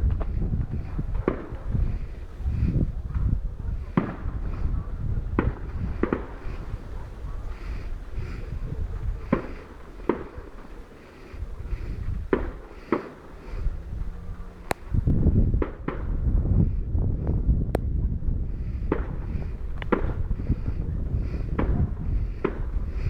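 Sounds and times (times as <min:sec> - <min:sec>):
fireworks bangs: 0:00.0 - 0:16.3, 0:18.7 - 0:23.0
steady low rumble: 0:00.0 - 0:23.0.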